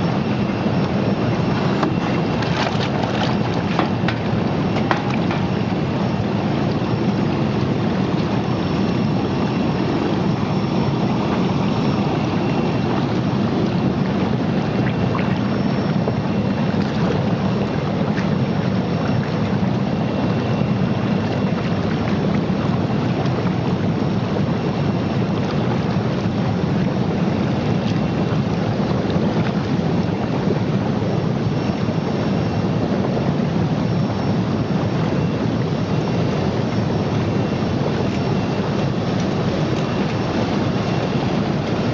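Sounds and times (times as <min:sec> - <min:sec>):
water churning and bubbling: 0:00.0 - 0:41.9.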